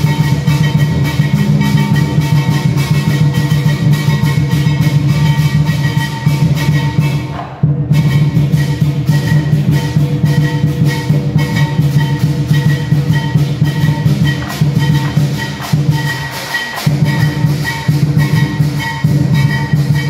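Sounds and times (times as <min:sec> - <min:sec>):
gong ringing: 0:00.0 - 0:07.3, 0:07.9 - 0:20.0
big drum pounding: 0:00.0 - 0:20.0
cymbals clashing: 0:00.0 - 0:20.0.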